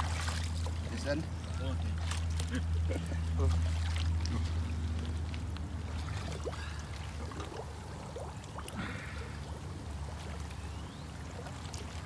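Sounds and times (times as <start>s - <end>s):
steady low hum: 0.0s - 12.0s
water splashing and trickling: 0.0s - 12.0s.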